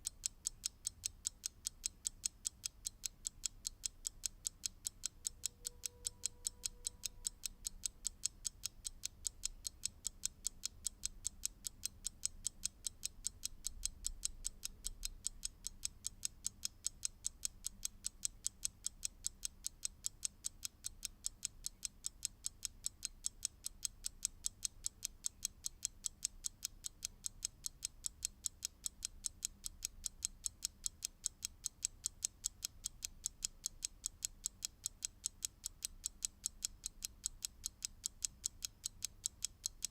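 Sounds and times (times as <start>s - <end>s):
clock ticking fast: 0.0s - 39.9s.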